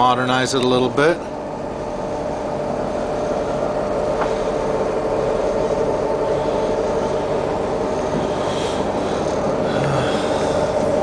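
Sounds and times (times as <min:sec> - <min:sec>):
boat engines idling: 0:00.0 - 0:11.0.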